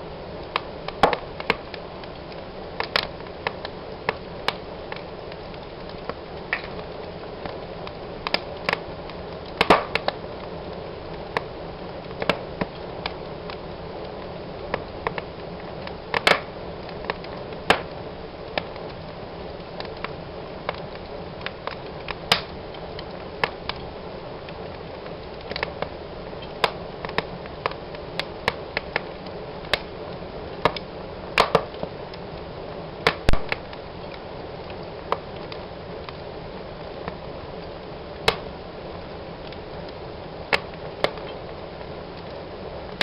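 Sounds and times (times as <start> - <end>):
hiss of flames: 0.0 - 43.0
wood fire crackling and popping: 0.0 - 43.0.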